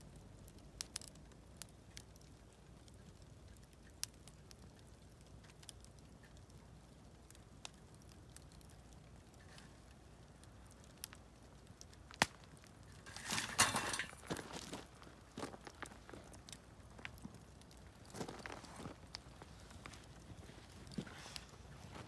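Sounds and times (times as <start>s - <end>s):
campfire crackling: 0.0s - 22.0s
firewood popping: 0.4s - 22.0s.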